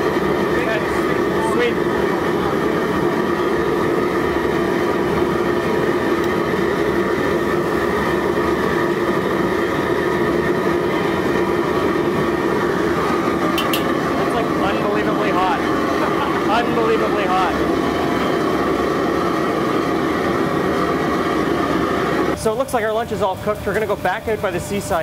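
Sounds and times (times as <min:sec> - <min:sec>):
burners and extractor fans roaring: 0:00.0 - 0:25.0.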